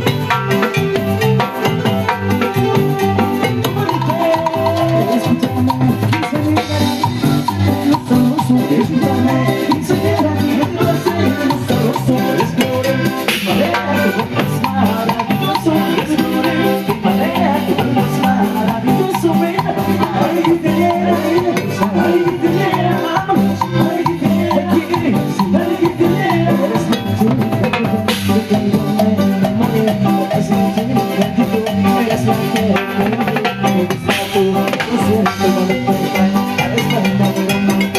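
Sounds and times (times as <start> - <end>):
hand percussion beat: 0.0 - 37.9
latin band playing dance music: 0.0 - 37.9.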